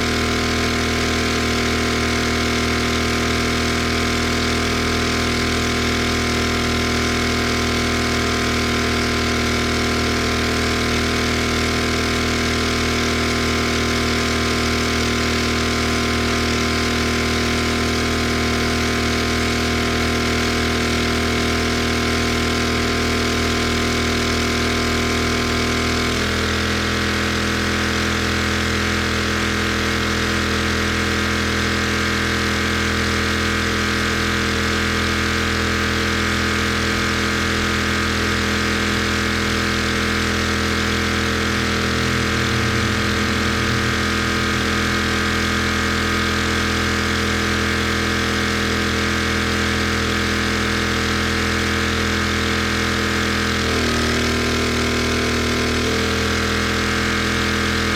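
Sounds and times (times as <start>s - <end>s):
pressure washer engine running: 0.0s - 57.9s.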